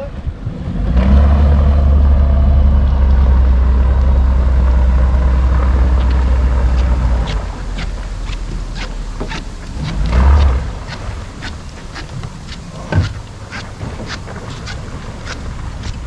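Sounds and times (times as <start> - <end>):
heavy low rumble: 0.0 - 16.0
outboard motor driving boat: 0.0 - 16.0.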